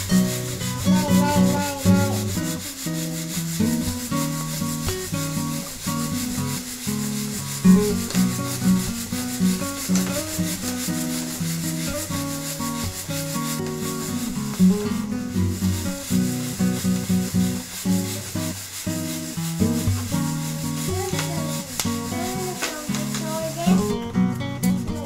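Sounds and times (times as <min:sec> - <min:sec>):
coffee beans rattling in mesh: 0:00.0 - 0:25.0
plucked guitar music: 0:00.0 - 0:25.0.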